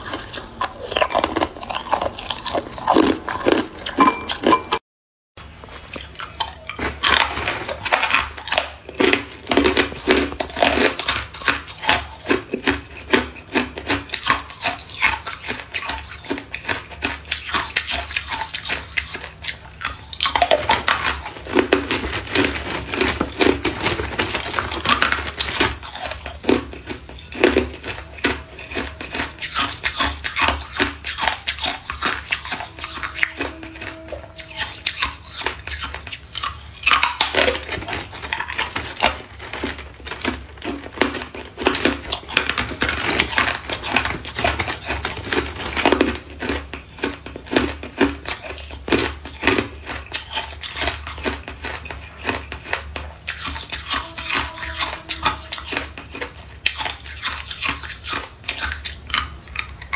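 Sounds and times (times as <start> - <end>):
ice cubes crunching: 0.0 - 4.8, 5.7 - 59.9
low steady hum: 5.4 - 59.9.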